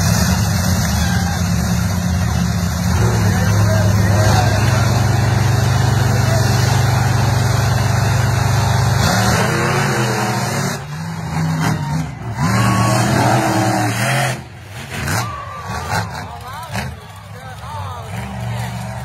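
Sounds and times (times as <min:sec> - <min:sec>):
monster truck engines revving: 0:00.0 - 0:19.0.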